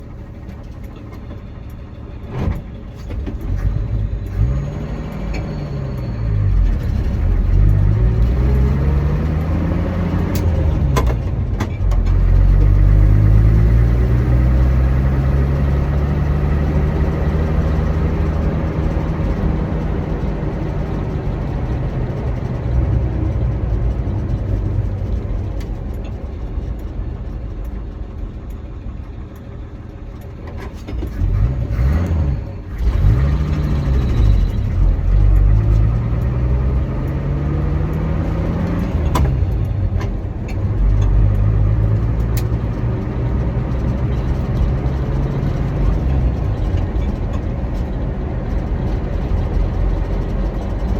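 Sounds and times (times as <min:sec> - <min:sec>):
pickup engine accelerating: 0:02.2 - 0:29.3, 0:30.1 - 0:50.9.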